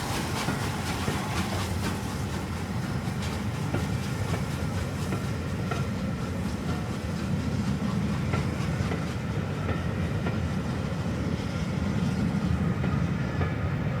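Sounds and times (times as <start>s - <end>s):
train coaches rumbling past: 0.0s - 14.0s.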